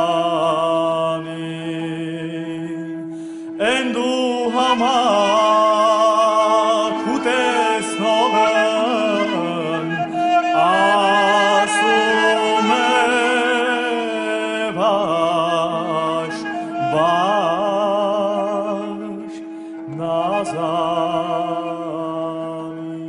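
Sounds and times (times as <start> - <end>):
solo voice singing: 0.0 - 23.0
steady held drone: 1.2 - 22.0.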